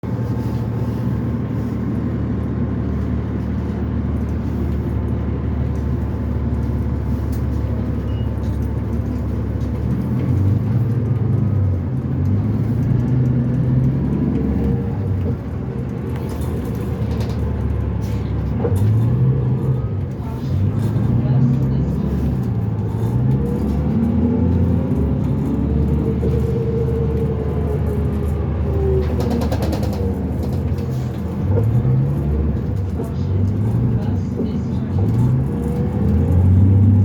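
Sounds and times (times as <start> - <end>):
bus diesel engine rumble: 0.0 - 37.0.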